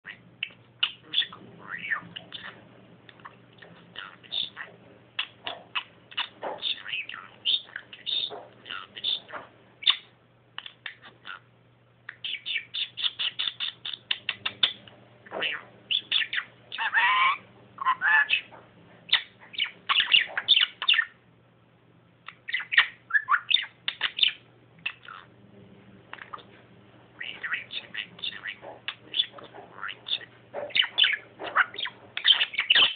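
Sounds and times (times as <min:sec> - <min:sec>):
budgerigar chattering: 0:00.1 - 0:11.5, 0:12.1 - 0:21.2, 0:22.3 - 0:25.3, 0:27.2 - 0:32.9.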